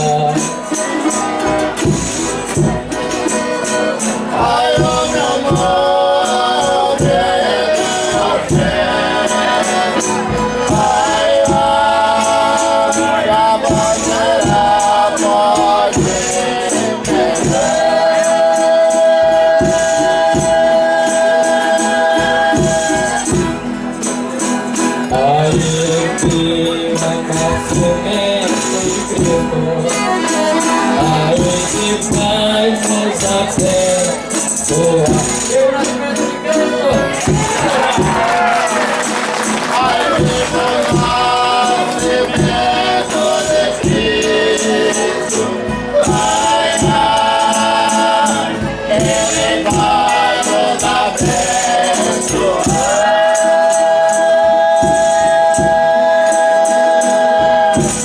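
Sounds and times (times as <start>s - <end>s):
folk singing: 0.0s - 58.0s
tambourine-like percussion beat: 0.0s - 58.0s.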